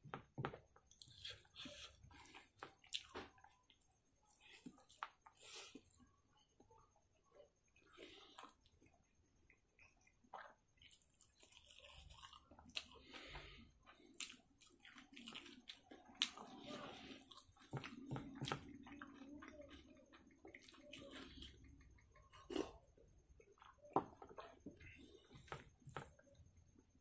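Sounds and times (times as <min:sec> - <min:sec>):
person chewing and lip smacking: 0:00.8 - 0:26.4.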